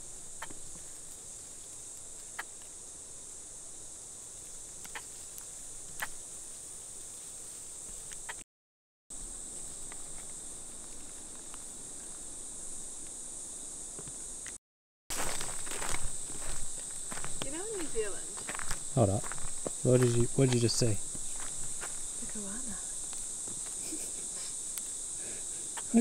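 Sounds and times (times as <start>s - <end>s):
insect chorus drone: 0.0s - 8.4s, 9.1s - 26.0s.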